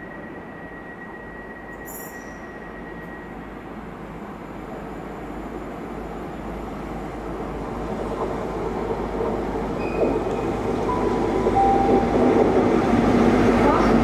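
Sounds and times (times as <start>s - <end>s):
diesel train engine: 0.0s - 14.0s.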